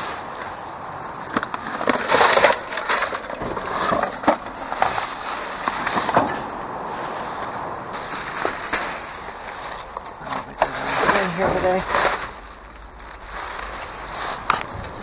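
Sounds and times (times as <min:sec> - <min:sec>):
plastic trash bags rustling: 0:00.0 - 0:15.0
rubbish crunching and crackling: 0:00.0 - 0:15.0.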